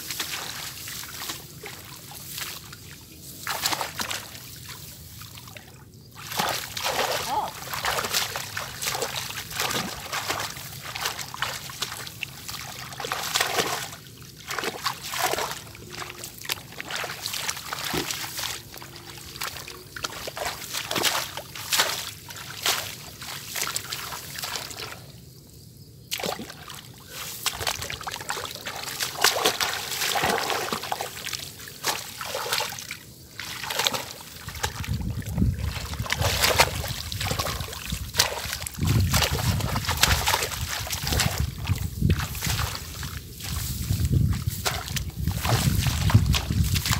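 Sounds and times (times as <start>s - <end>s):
water splashing and sloshing: 0.0s - 25.2s, 26.0s - 46.9s.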